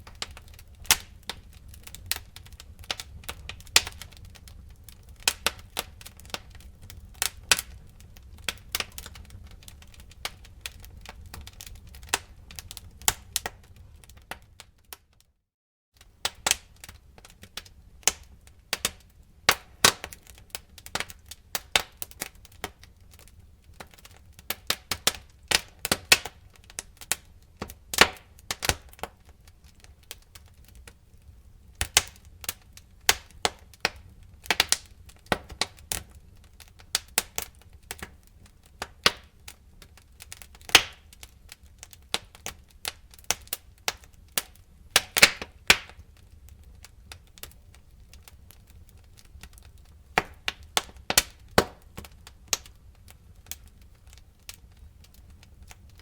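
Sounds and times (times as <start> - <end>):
wood fire crackling: 0.0 - 15.3, 16.0 - 56.0.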